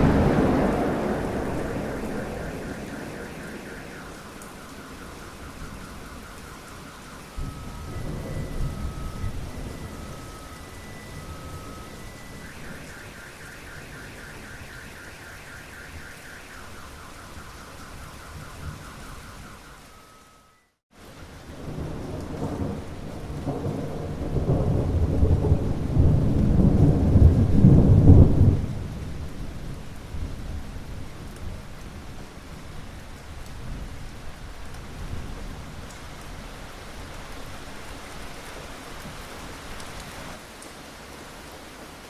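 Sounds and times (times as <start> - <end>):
rolling thunder rumble: 0.0 - 19.9, 21.3 - 38.0
steady rain: 0.0 - 42.0.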